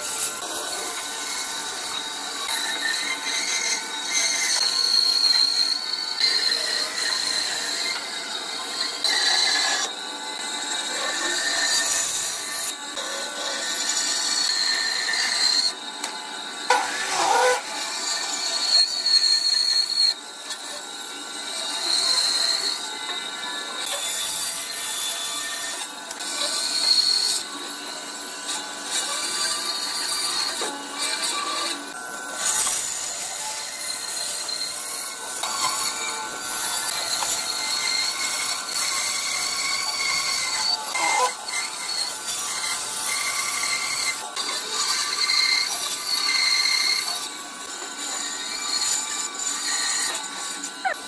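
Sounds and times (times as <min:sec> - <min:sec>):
band saw cutting wood: 0:00.0 - 0:51.0.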